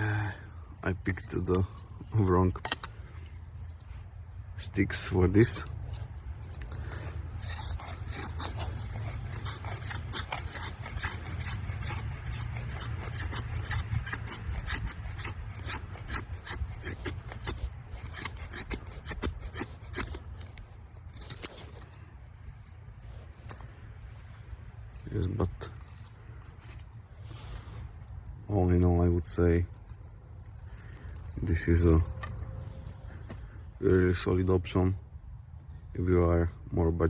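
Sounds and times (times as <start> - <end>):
knife scraping wooden stick: 0.0 - 4.0, 4.9 - 34.1.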